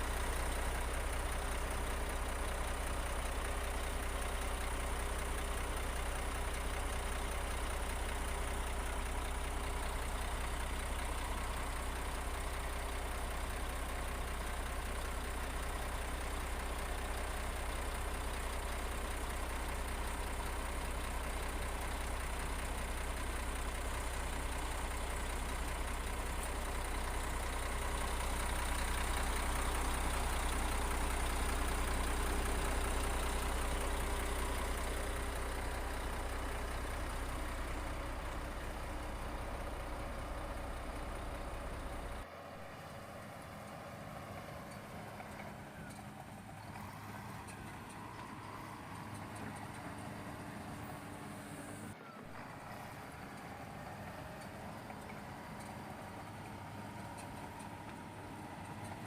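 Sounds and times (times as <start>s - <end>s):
heavy machinery diesel engine running: 0.0s - 59.0s.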